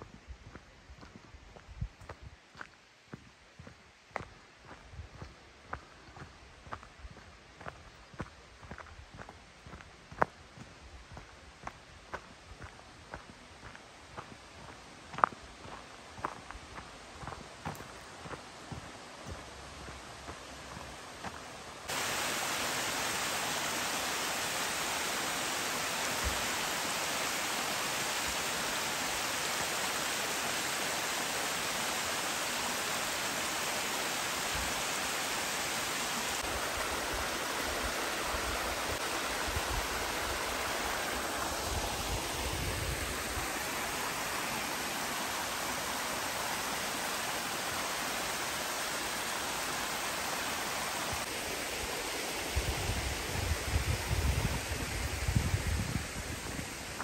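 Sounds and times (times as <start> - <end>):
mountain creek rushing: 0.0 - 57.0.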